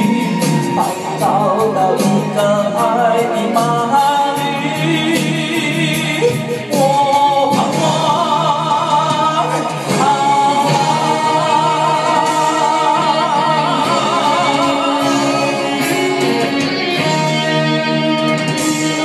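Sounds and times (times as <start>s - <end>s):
instrumental accompaniment: 0.0s - 19.0s
person singing slow song: 0.0s - 19.0s.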